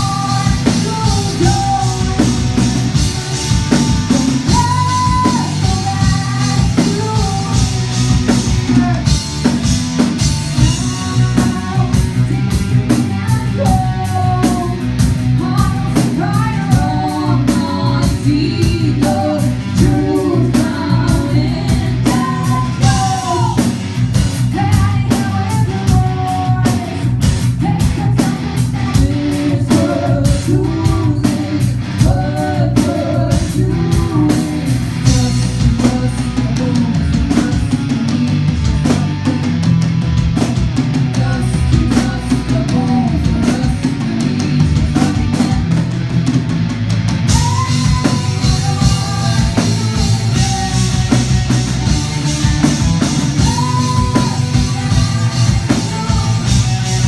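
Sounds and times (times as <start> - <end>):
drum and cymbal hits: 0.0 - 32.2, 32.8 - 57.0
woman singing lead: 0.0 - 39.6, 40.4 - 46.5, 47.1 - 57.0
rock band playing live: 0.0 - 57.0.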